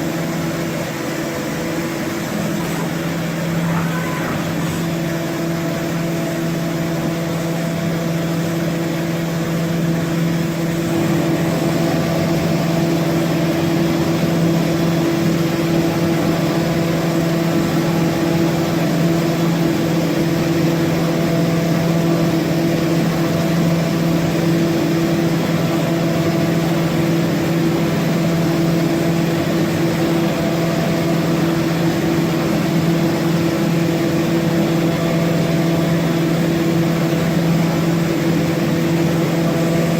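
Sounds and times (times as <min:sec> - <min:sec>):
machine humming with steady tones: 0:00.0 - 0:39.9.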